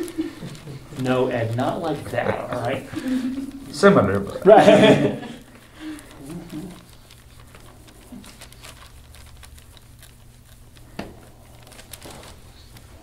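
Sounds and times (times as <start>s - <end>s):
skin and cloth rubbing: 0.0s - 13.0s.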